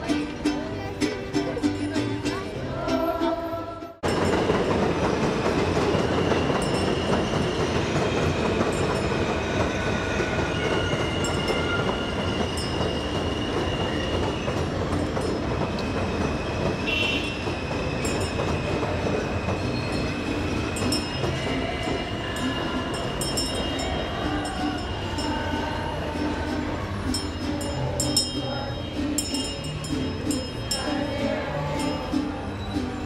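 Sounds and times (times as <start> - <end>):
train rumbling past: 0.0 - 33.0
high-pitched wheel squeals: 6.0 - 33.0.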